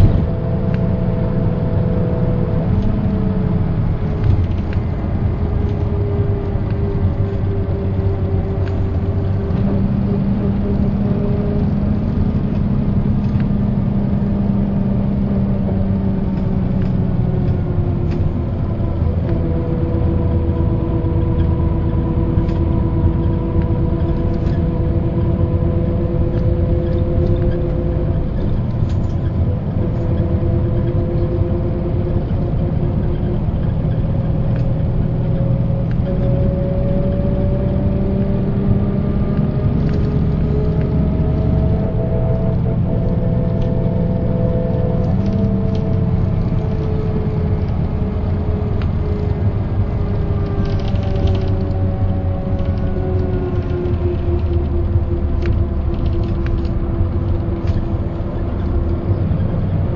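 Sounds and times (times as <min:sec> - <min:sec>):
bus diesel engine running: 0:00.0 - 0:59.9
drivetrain whine: 0:00.0 - 0:59.9.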